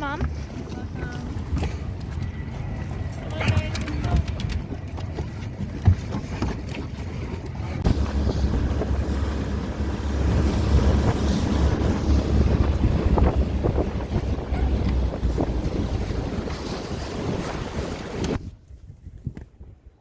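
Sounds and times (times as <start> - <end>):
boat moving through water: 0.0 - 18.7
wind buffeting microphone: 0.0 - 20.0.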